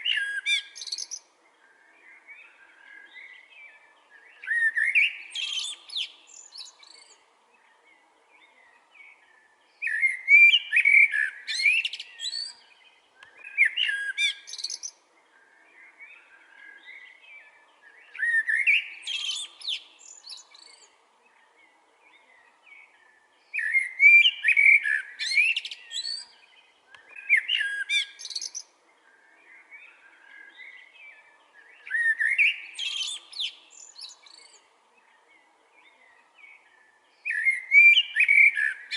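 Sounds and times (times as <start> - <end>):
blackbird singing: 0.0 - 38.9.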